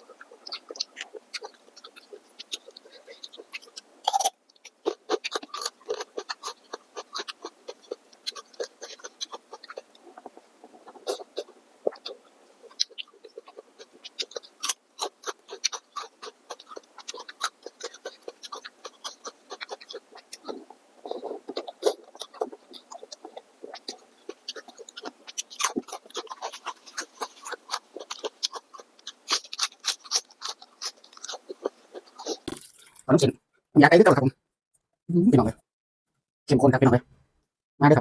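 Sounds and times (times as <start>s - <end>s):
mouth clicks and smacks: 0.0s - 33.1s
wet chewing: 0.0s - 33.1s.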